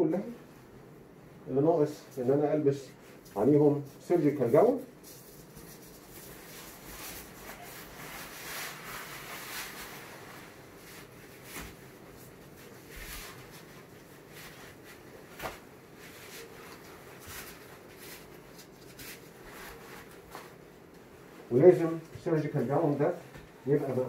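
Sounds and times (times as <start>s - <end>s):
surgical gown rustling: 1.8s - 24.0s.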